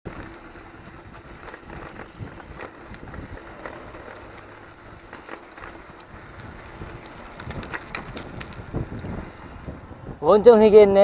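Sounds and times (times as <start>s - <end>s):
bike clicks and rattles: 0.1s - 10.6s
bike tyre noise: 0.1s - 11.0s
wind on microphone: 0.1s - 11.0s.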